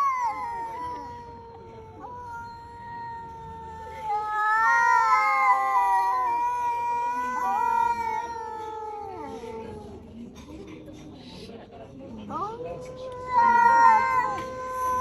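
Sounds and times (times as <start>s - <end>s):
cat yowling: 0.0s - 10.2s, 12.4s - 15.0s.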